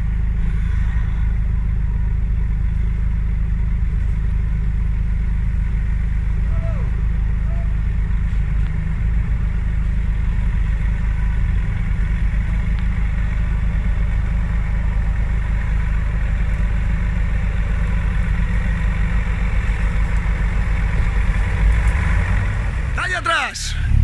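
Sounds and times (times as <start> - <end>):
engine droning at low revs: 0.0 - 24.0.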